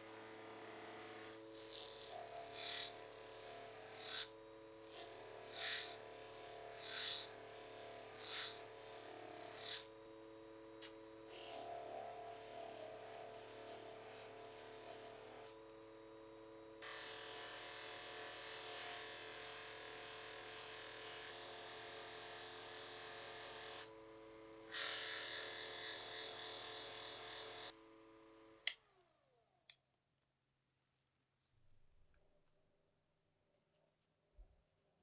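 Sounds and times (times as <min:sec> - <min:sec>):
small polishing motor running: 0:00.0 - 0:29.2.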